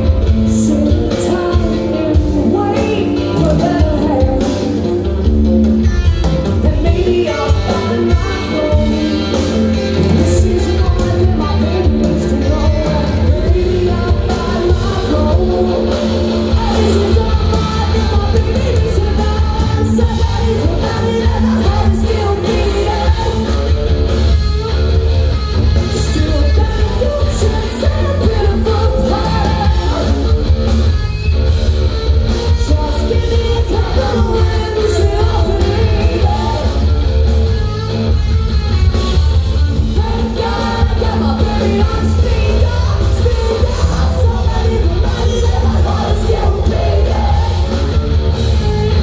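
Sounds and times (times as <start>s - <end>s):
person singing: 0.0s - 5.5s, 6.4s - 23.8s, 25.9s - 30.4s, 32.5s - 37.0s, 39.8s - 48.0s
drums: 0.0s - 49.0s
electric guitars: 0.0s - 49.0s.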